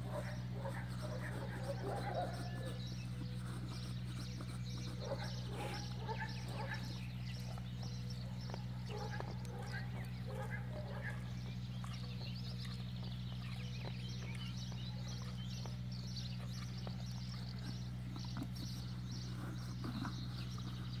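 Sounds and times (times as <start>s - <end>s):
birds chirping: 0.0s - 21.0s
horse eating from plastic bucket: 0.0s - 21.0s
steady low hum: 0.0s - 21.0s.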